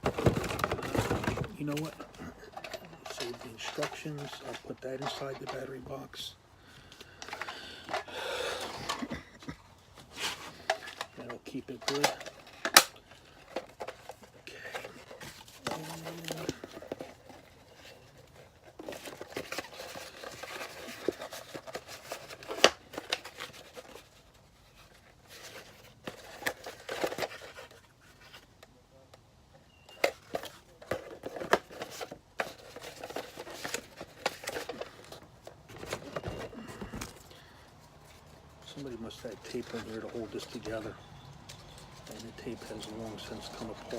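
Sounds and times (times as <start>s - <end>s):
packaging rustling and crinkling: 0.0s - 9.2s, 9.9s - 28.6s, 29.8s - 43.9s.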